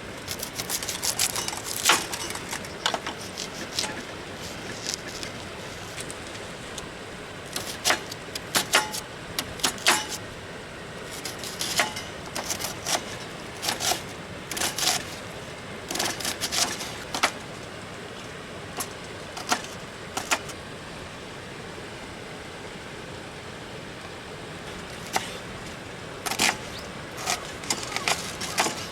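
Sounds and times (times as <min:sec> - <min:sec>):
steady background hiss: 0:00.0 - 0:28.9.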